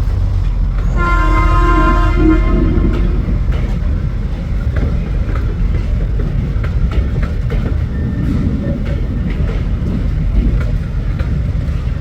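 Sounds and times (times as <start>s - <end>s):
train rumbling by: 0.0s - 12.0s
wheels clacking over rail joints: 0.0s - 12.0s.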